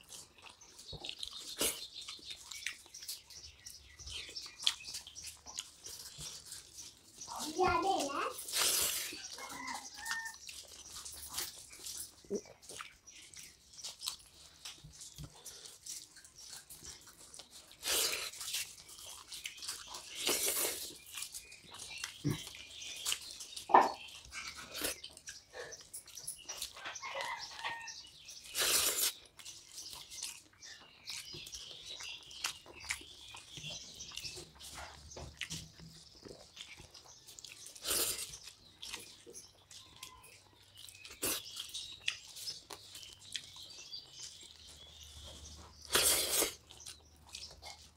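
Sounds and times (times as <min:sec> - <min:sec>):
wet chewing: 0:00.0 - 0:47.9.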